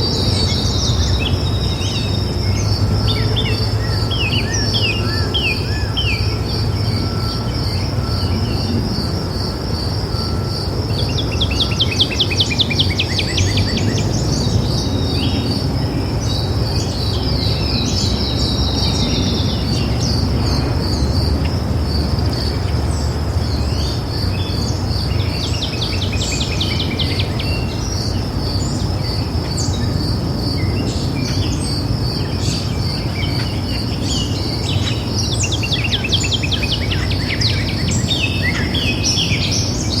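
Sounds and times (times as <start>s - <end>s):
birds singing trills: 0.0s - 40.0s.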